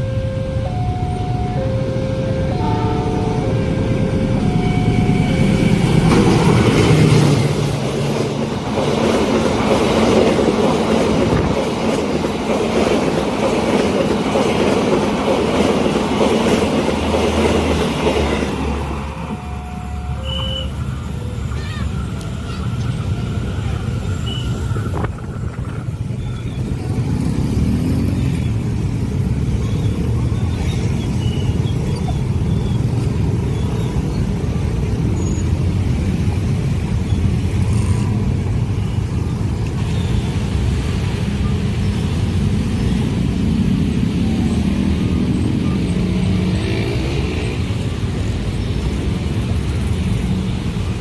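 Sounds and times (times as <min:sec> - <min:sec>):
vehicles passing close by: 0:00.0 - 0:51.0.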